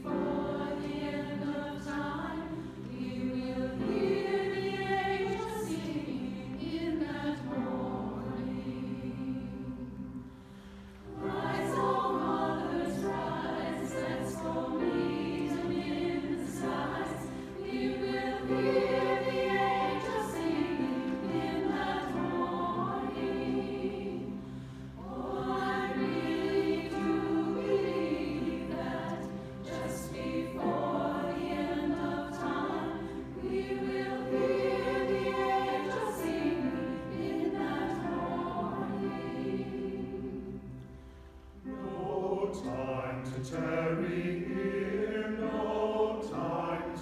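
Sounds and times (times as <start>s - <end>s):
mixed choir singing: 0.0s - 47.0s.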